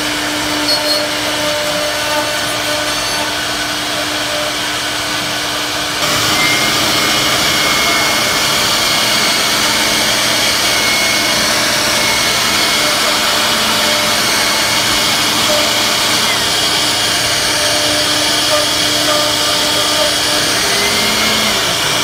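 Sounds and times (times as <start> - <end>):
router bit cutting wood: 0.0 - 22.0.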